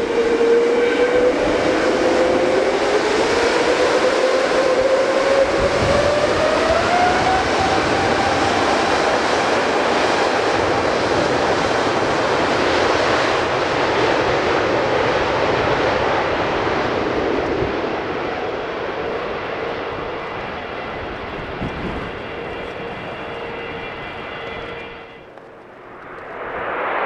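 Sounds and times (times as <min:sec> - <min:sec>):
faint engine whine: 0:00.0 - 0:27.0
jet engine roar: 0:00.0 - 0:27.0.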